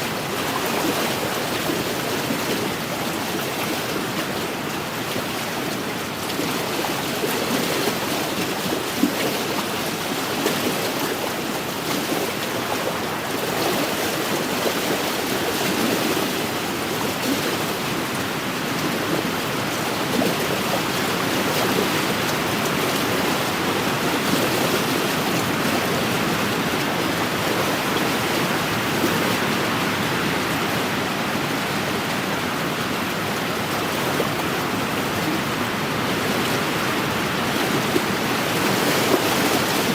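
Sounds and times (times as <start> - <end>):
lake waves washing on shore: 0.0 - 39.9.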